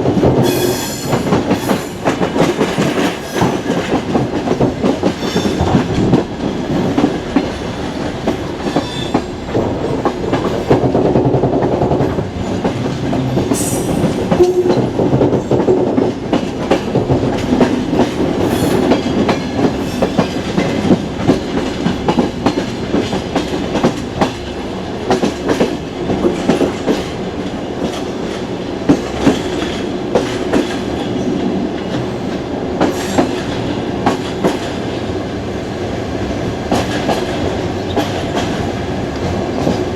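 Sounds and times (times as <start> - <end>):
train wheels clicking over rail joints: 0.0 - 35.0, 36.7 - 39.9
train carriage rumble: 0.0 - 39.9.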